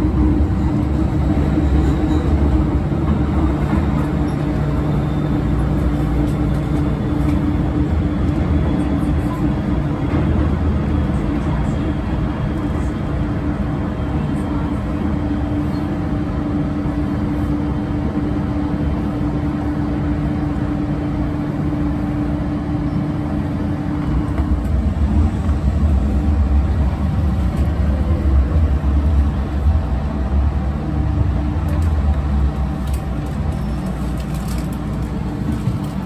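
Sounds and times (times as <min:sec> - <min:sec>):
train rumbling in tunnel: 0:00.0 - 0:36.0.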